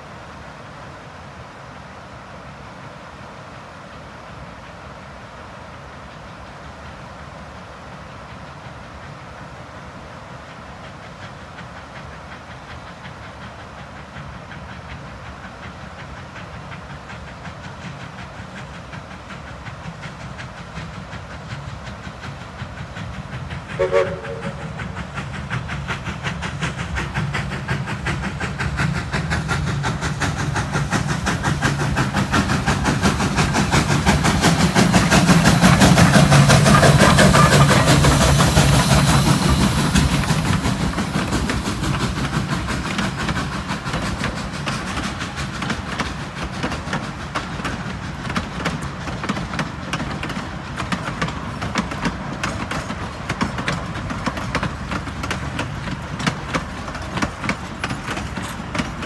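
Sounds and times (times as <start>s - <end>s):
steam train passing: 0.0s - 59.0s
train coaches clickety-clack: 3.9s - 59.0s.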